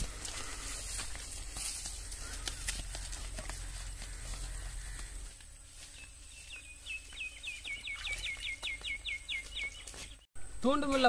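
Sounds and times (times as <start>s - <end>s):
footsteps through grass: 0.0s - 11.0s.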